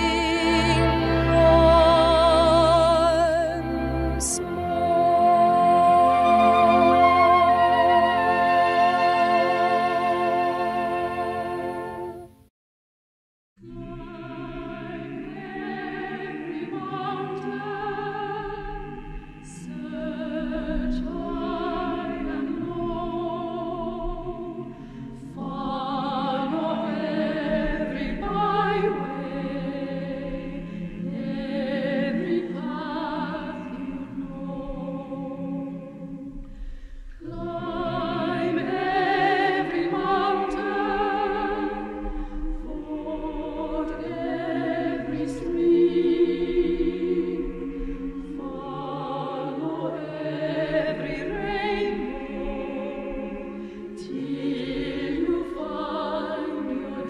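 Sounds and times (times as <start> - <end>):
choir singing operatically: 0.0 - 12.4, 13.6 - 36.4, 37.1 - 57.0.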